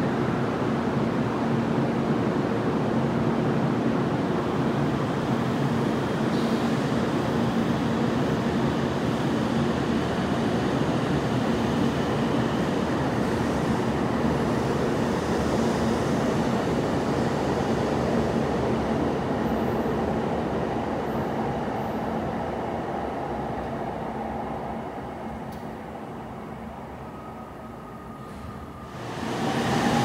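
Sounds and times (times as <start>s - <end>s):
train rumbling: 4.1s - 30.0s.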